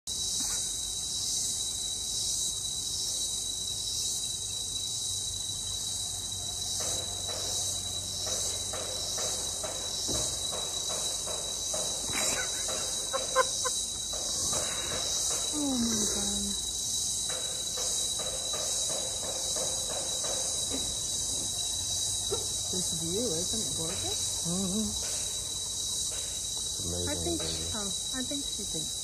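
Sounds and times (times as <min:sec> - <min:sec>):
high-pitched insect chorus: 0:00.1 - 0:29.0.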